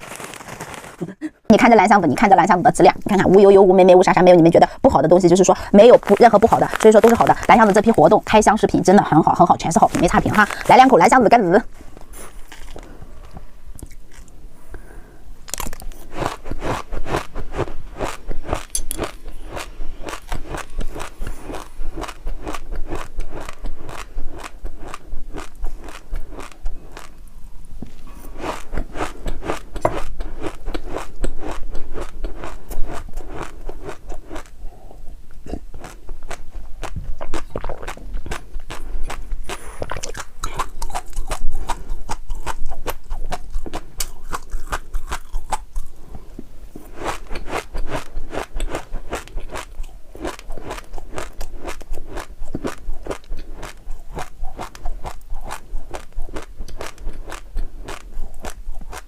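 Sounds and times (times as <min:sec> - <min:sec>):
person crunching crisp food: 0:00.0 - 0:01.2, 0:05.5 - 0:08.4, 0:09.8 - 0:34.6, 0:35.4 - 0:46.2, 0:46.8 - 0:59.0.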